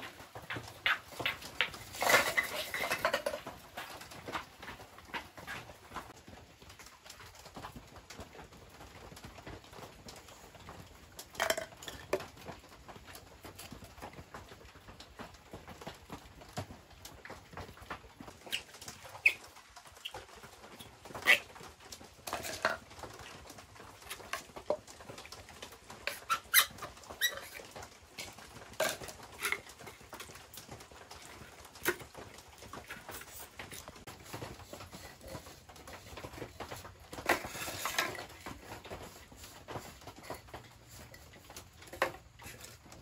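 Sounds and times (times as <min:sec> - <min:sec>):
scraping or rustling: 0:00.0 - 0:06.2, 0:09.8 - 0:14.1, 0:17.7 - 0:43.0.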